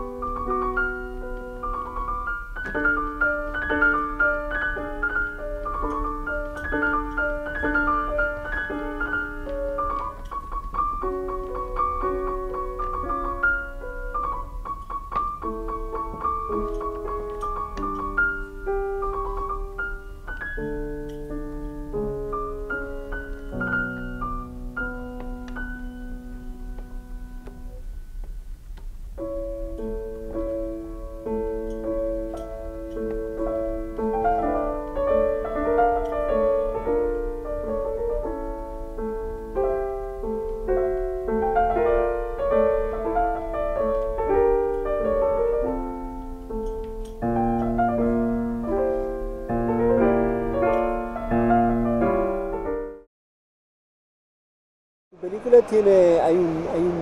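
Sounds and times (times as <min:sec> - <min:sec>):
solo piano melody: 0:00.0 - 0:53.1.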